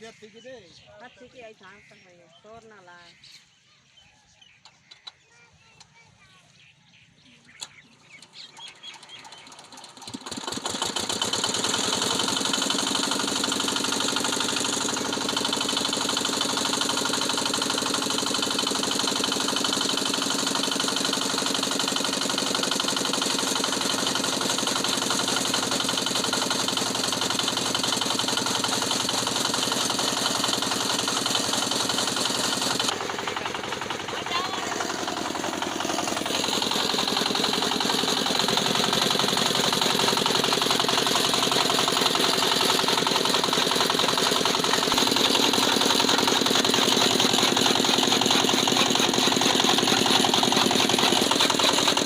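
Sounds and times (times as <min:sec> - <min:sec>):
diesel engine starting and running: 0:07.4 - 0:52.0.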